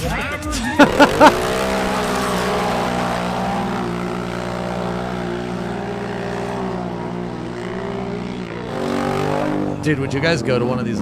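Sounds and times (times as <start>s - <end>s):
engine droning: 0.6s - 11.0s.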